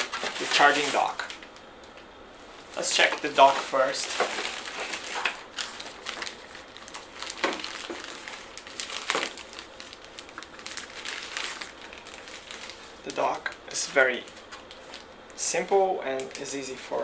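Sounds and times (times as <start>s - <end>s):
packaging crinkling and rustling: 0.0s - 1.6s, 2.4s - 15.1s.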